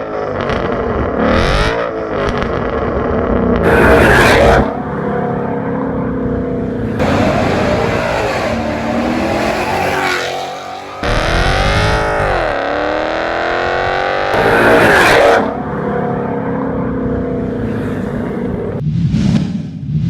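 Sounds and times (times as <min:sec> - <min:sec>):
car engine revving and idling: 0:00.1 - 0:18.8.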